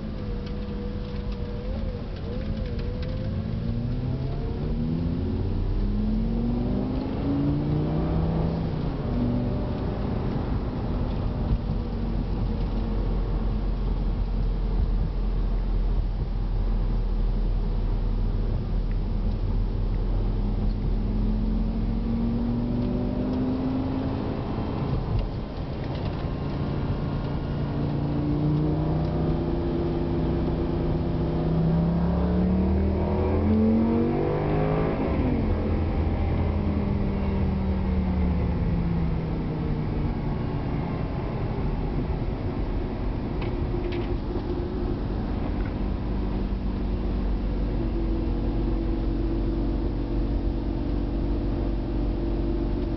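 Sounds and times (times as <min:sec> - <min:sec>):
sports car engine accelerating: 0:00.0 - 0:15.6, 0:18.2 - 0:52.9
road and wind noise: 0:00.0 - 0:52.9.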